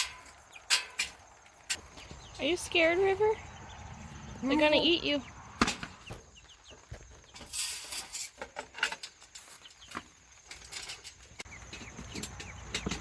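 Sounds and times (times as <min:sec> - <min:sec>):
chicks peeping: 0:00.2 - 0:07.6, 0:09.4 - 0:13.0.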